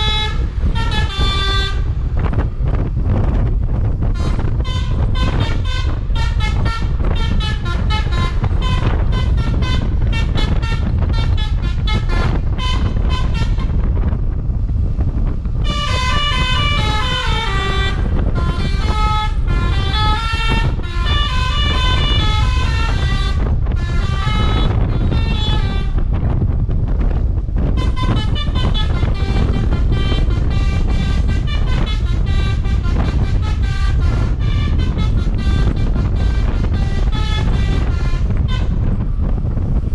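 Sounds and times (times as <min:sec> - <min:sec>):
air horn playing tunes: 0:00.0 - 0:02.4, 0:04.0 - 0:14.2, 0:15.6 - 0:26.4, 0:27.6 - 0:39.9
steady low rumble: 0:00.0 - 0:39.9.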